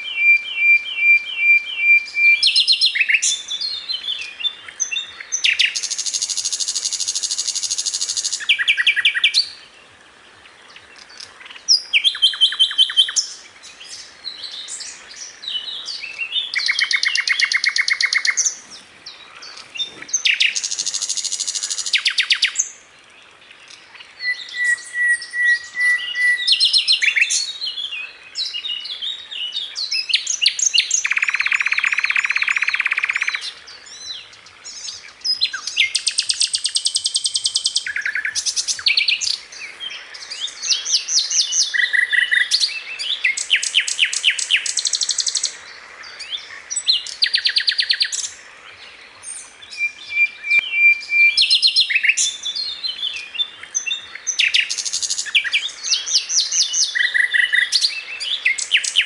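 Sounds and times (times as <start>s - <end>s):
bird song trills and rattles: 10.4s - 59.0s.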